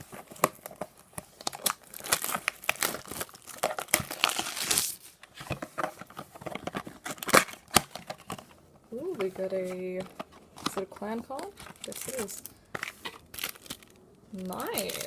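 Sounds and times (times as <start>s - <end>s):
plastic wrap tearing: 0.0s - 5.2s, 6.0s - 15.0s
plastic wrapping crinkling: 0.0s - 15.0s.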